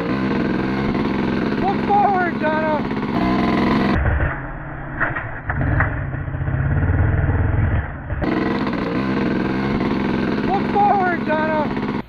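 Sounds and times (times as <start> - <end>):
two-stroke quad engine running: 0.0 - 4.1, 5.5 - 12.0.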